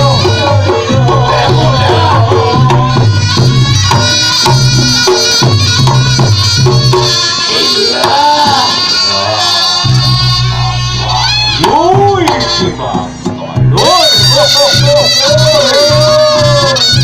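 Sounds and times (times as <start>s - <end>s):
gamelan drums and percussion: 0.0s - 17.0s.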